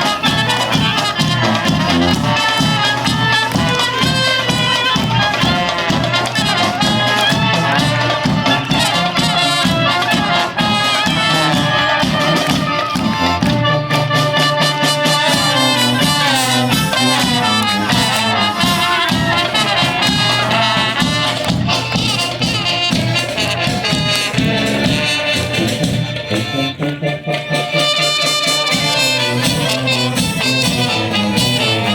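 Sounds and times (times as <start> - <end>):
band playing brass melody: 0.0 - 31.9.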